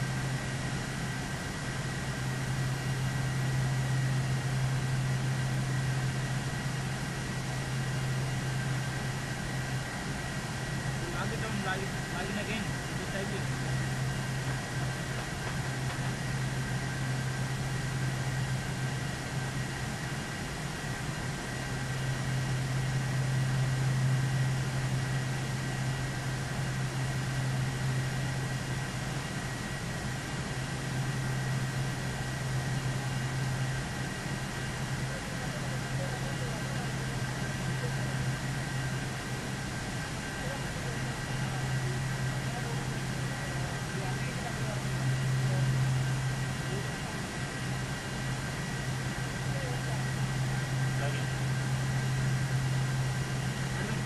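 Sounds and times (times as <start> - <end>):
faint high whine: 0.0 - 54.0
machine hum: 0.0 - 54.0.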